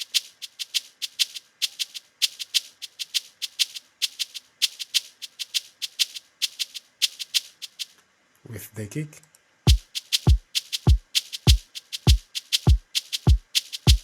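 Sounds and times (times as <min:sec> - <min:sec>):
shaker loop: 0:00.0 - 0:08.0, 0:09.7 - 0:14.0.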